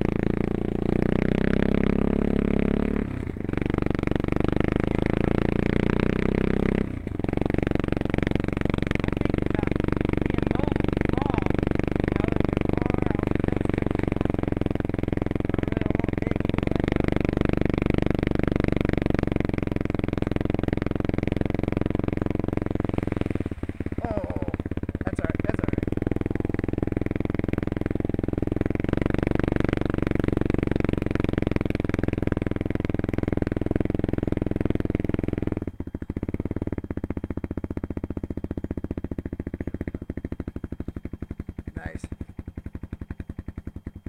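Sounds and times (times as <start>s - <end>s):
atv engine running: 0.0s - 44.0s.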